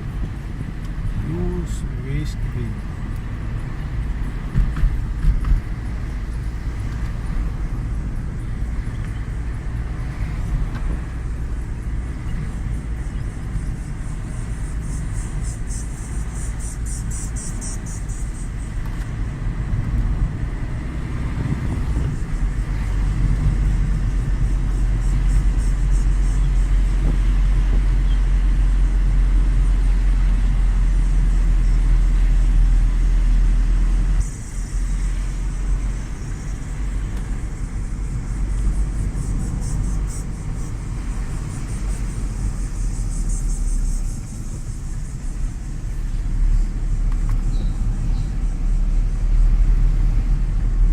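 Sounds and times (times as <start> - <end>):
car driving on road: 0.0 - 50.9.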